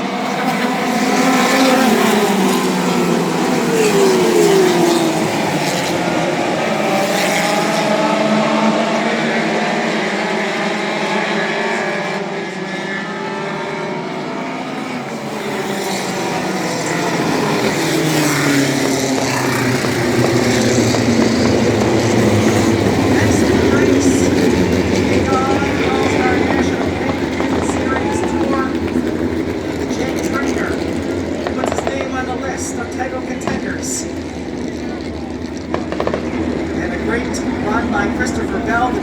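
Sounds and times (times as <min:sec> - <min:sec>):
race car engines passing: 0:00.0 - 0:39.0.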